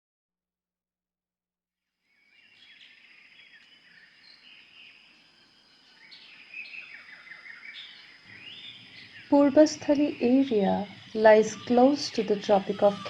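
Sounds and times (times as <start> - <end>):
birds chirping and twittering: 2.0 - 13.0.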